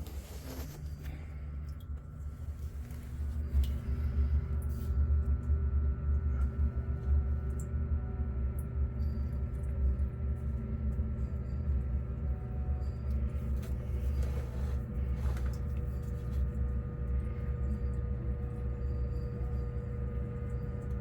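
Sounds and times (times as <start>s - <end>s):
low mechanical rumble: 0.0s - 21.0s.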